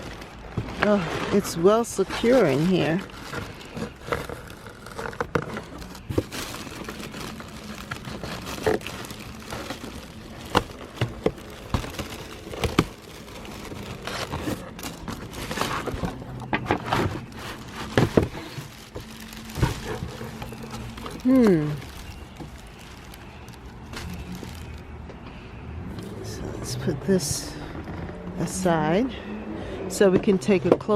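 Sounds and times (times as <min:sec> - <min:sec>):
packaging rustling and crinkling: 0:00.0 - 0:25.0.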